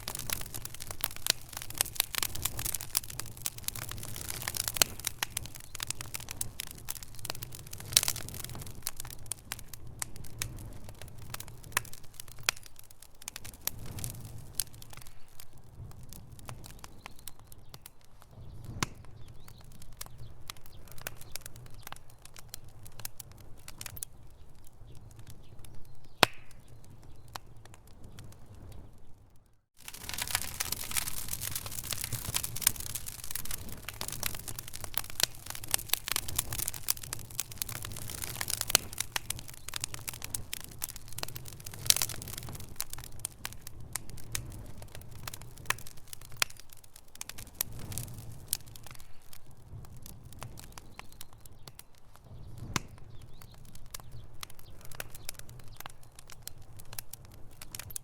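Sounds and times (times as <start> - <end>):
flame rumbling: 0.0 - 25.6, 29.8 - 58.0
wood fire snaps and pops: 0.0 - 58.0.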